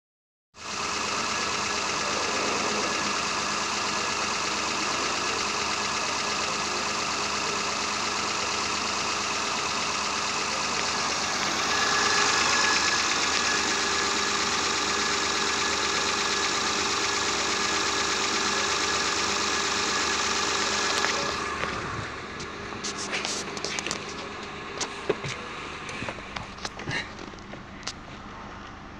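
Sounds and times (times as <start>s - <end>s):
car engine idling: 0.6s - 28.9s.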